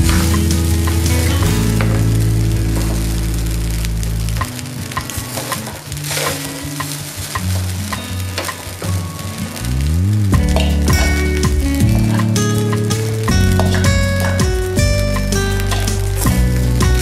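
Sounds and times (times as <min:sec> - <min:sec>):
background music: 0:00.0 - 0:07.7, 0:08.4 - 0:17.0
steady hiss: 0:00.0 - 0:17.0.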